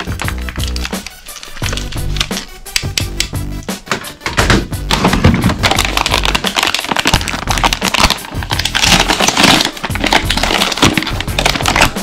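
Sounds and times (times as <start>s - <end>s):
background music: 0.0s - 12.0s
plastic crackling and crunching: 0.0s - 12.0s.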